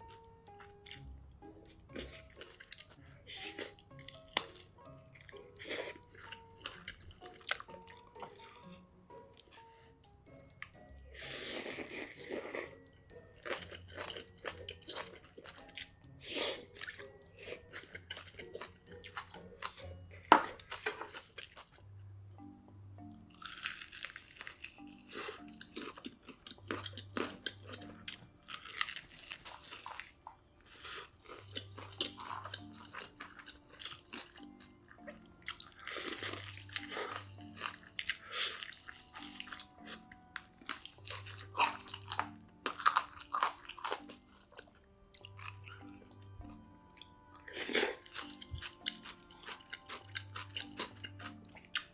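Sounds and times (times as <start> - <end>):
food crunching and chewing: 0.0 - 1.1, 1.7 - 8.7, 9.4 - 21.9, 23.3 - 51.9
soft background music: 0.0 - 51.9.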